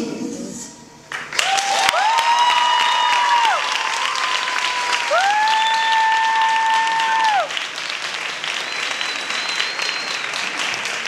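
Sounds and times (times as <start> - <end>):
audience applauding: 1.1 - 11.0.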